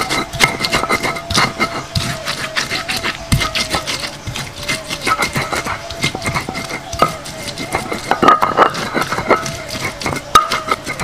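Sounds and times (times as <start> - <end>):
stone pestle grinding on slab: 0.0 - 11.0.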